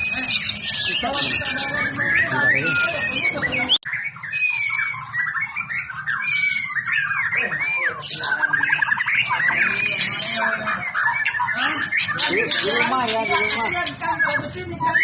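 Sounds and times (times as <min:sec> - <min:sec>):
songbird whistling and trilling: 0:00.0 - 0:15.0.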